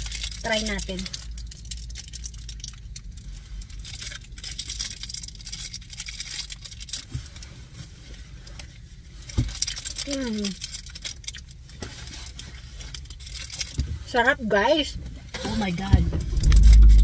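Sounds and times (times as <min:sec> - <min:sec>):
plastic packaging crinkling: 0:00.0 - 0:14.1, 0:16.3 - 0:17.0
low steady hum: 0:00.0 - 0:17.0.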